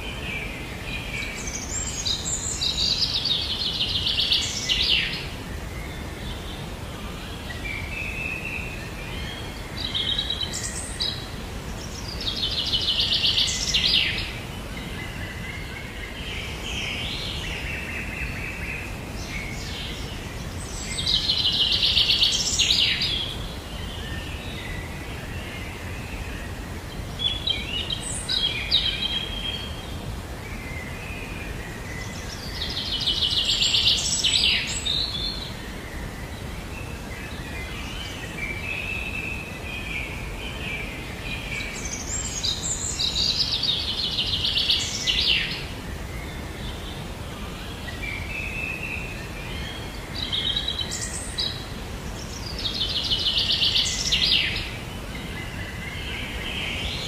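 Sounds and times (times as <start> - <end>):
background noise: 0.0 - 57.0
birds chirping and twittering: 0.0 - 57.0
birds singing: 0.0 - 57.0.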